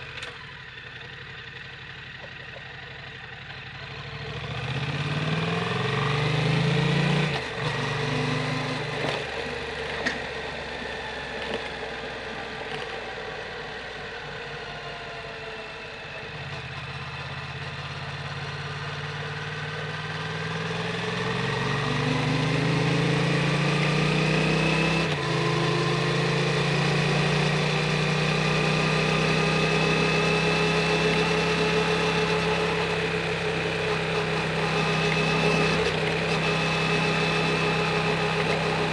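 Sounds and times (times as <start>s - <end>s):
motorcycle engine revving: 0.0s - 14.5s, 16.3s - 38.9s.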